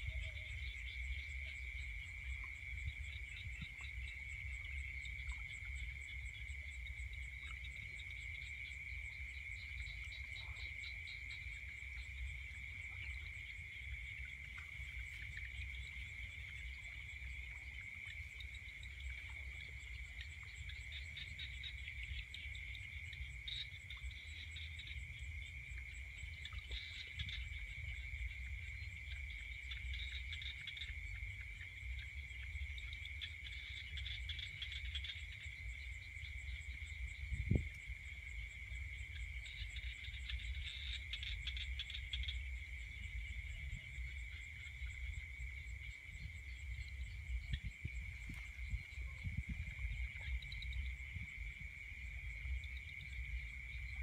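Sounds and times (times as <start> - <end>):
insect trill: 0.0 - 54.0.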